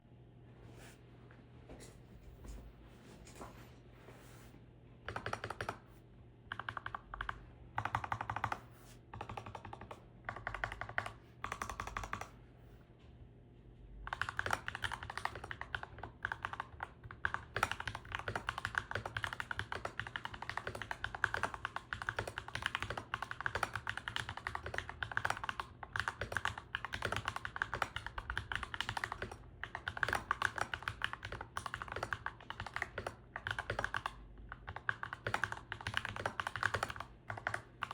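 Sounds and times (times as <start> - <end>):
mechanical keyboard typing: 5.1 - 5.8, 6.5 - 12.3, 14.1 - 37.9.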